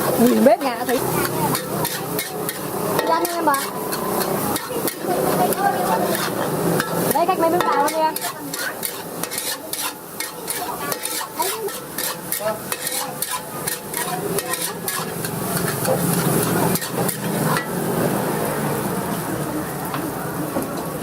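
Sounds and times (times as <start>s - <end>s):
metal spatula scraping a pan: 0.0s - 17.9s
rice sizzling in a pan: 0.0s - 21.0s.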